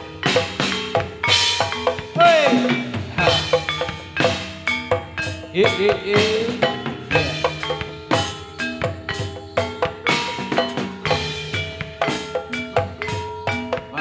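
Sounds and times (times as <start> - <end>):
drum strokes: 0.0 - 14.0
gamelan ensemble dance music: 0.0 - 14.0
ringing struck metal notes: 0.0 - 14.0.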